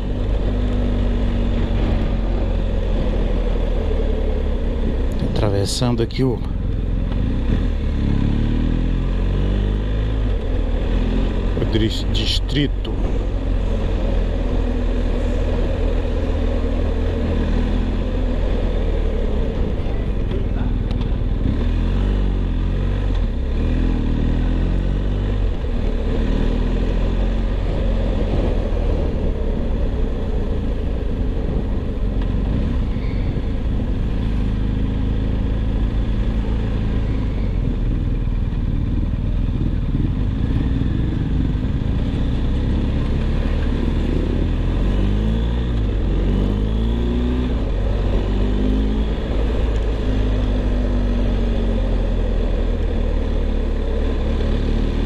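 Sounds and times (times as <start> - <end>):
motorcycle engine revving: 0.0 - 5.4, 6.6 - 55.0.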